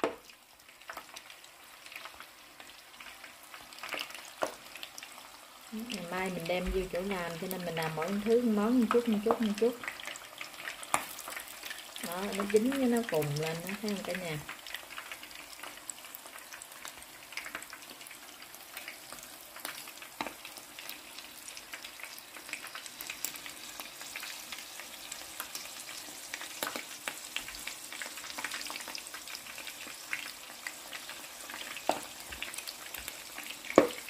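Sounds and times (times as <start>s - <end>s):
shrimp sizzling in hot oil: 0.0s - 34.0s.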